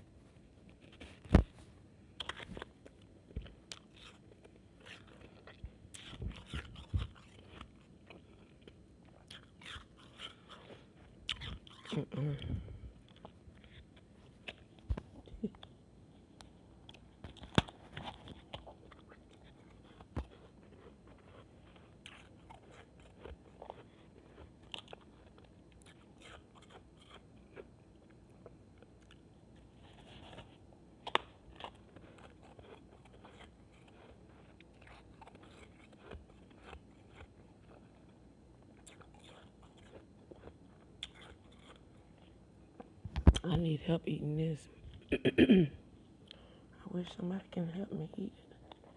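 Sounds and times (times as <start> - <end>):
ice crunching while chewed: 2.2 - 15.7, 16.8 - 42.9.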